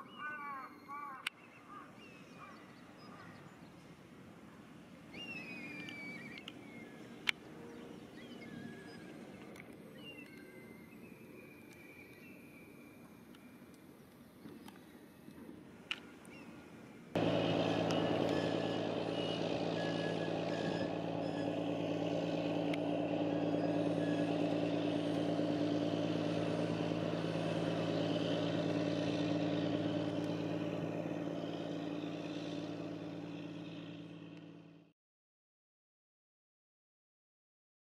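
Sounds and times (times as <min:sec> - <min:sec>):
boat diesel engine droning: 0:02.3 - 0:34.9.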